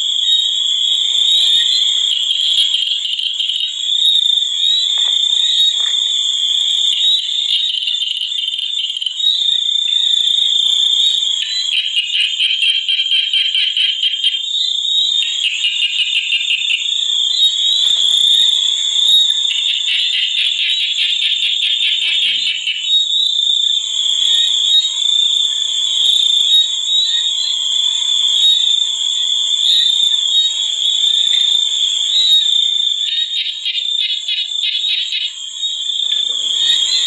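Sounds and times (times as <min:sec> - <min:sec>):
frogs croaking: 0:00.0 - 0:37.0
insect trill: 0:00.0 - 0:37.0.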